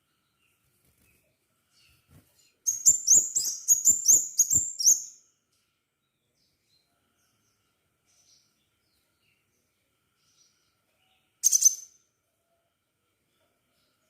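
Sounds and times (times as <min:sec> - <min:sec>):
bird chirping: 0:00.0 - 0:05.4, 0:06.0 - 0:12.2.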